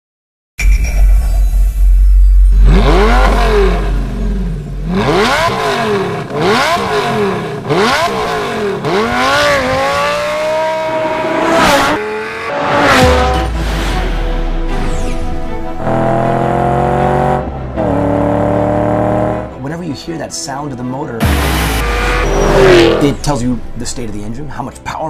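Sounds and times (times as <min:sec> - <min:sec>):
car engine revving: 0:02.3 - 0:19.6, 0:21.2 - 0:24.5.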